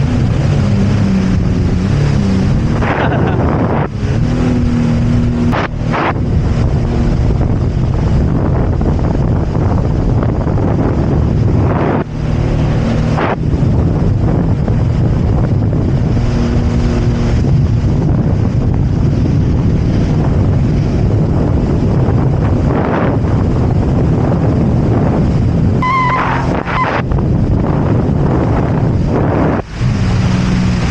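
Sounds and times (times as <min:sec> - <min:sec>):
jet ski engine running: 0:00.0 - 0:30.9
wind buffeting microphone: 0:00.0 - 0:30.9.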